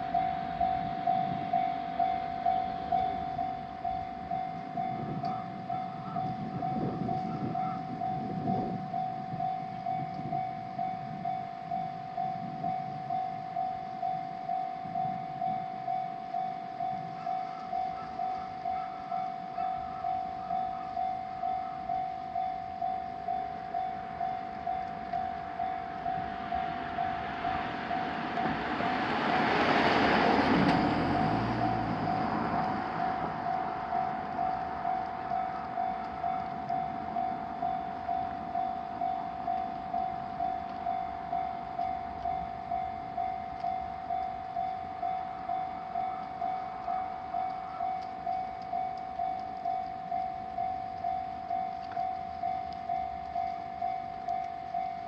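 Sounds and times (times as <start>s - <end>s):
level crossing bell ringing: 0.0s - 28.6s, 32.9s - 55.0s
electric train passing: 0.0s - 55.0s.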